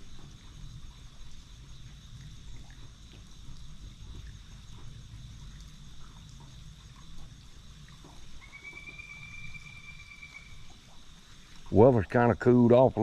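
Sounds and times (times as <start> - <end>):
small ticks: 0.0 - 11.7.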